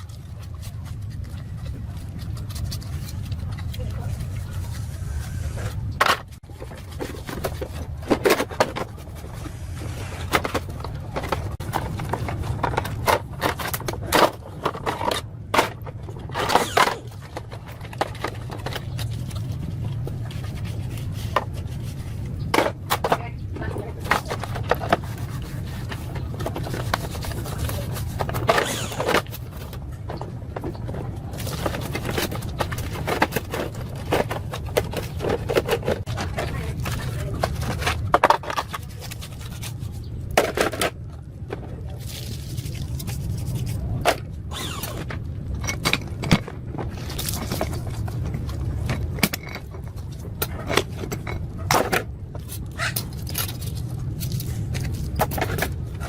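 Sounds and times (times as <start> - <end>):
hand tools and metal parts clinking: 0.0 - 56.0
steady low hum: 0.0 - 56.0.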